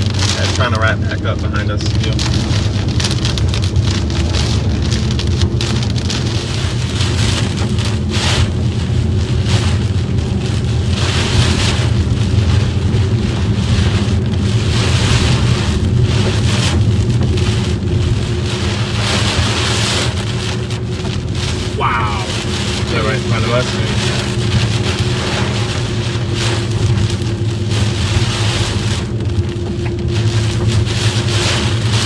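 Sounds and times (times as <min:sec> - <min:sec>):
rain hitting a car: 0:00.0 - 0:32.0
road and engine rumble: 0:00.0 - 0:32.0.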